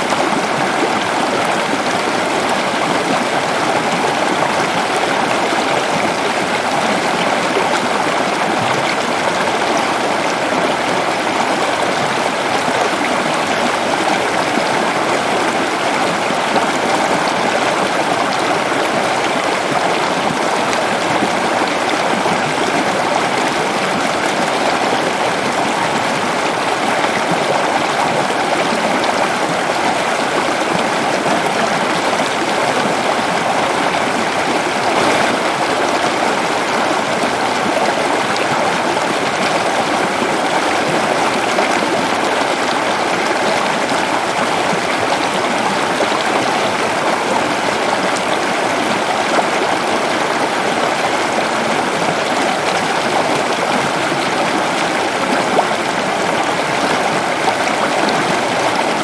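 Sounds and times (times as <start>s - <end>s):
waterfall rushing into stream: 0.0s - 59.0s.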